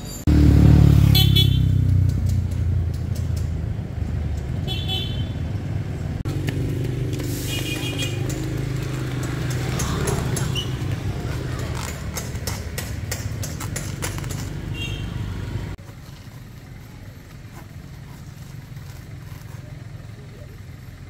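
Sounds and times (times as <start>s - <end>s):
motorcycle engine running: 0.3s - 21.0s.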